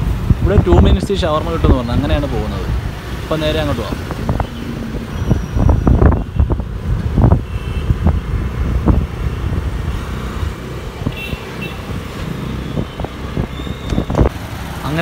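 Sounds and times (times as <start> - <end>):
wind buffeting microphone: 0.0 - 14.7
motorbike engine and road rumble: 0.0 - 15.0.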